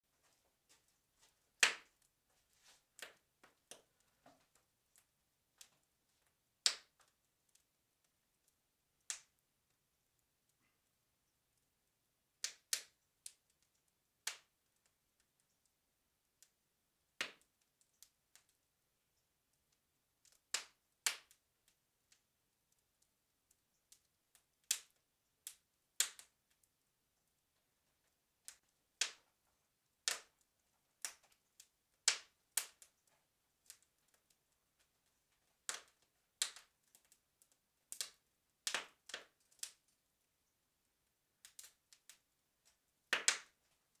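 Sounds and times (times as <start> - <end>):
forge fire crackling and popping: 0.6 - 44.0.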